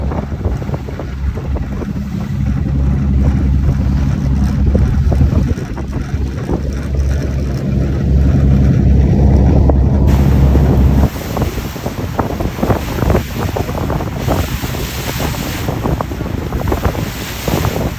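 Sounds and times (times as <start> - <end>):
boat engine droning: 0.0 - 17.9
rough wind: 0.0 - 17.9
water noise: 0.0 - 17.9.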